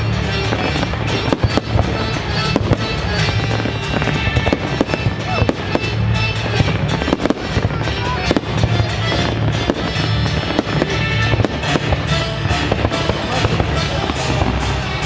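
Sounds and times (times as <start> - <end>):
fireworks bangs and crackling: 0.0 - 15.0
loud music: 0.0 - 15.0.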